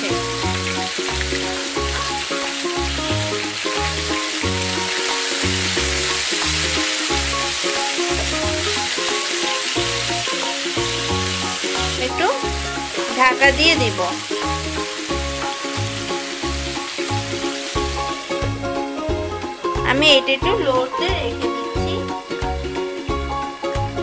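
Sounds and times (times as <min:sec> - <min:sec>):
chicken sizzling in hot oil: 0:00.0 - 0:20.2
music with repeating bass line: 0:00.0 - 0:24.0.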